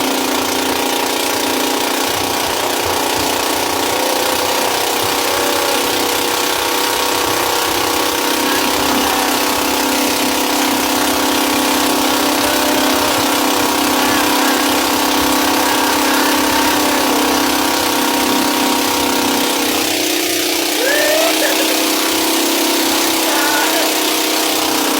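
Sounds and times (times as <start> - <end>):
boat engine running: 0.0 - 24.9.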